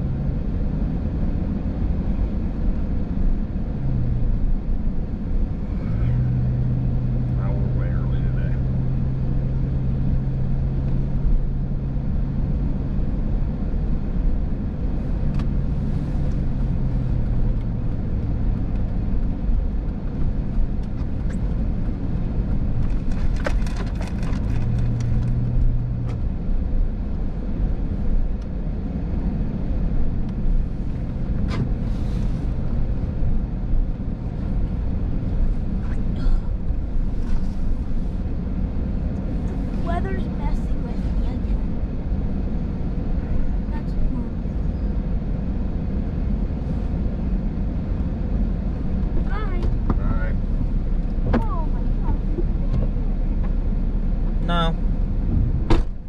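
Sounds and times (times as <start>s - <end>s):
car engine: 0.0s - 56.0s.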